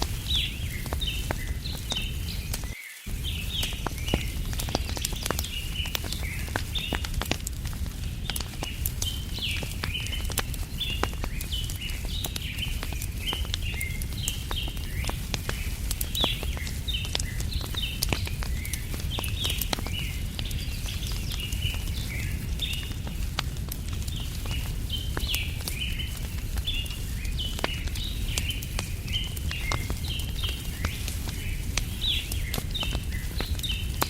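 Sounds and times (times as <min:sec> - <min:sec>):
small birds chirping: 0:00.0 - 0:34.0
steady low rumble: 0:00.0 - 0:34.0
wood fire crackling and popping: 0:00.0 - 0:34.0.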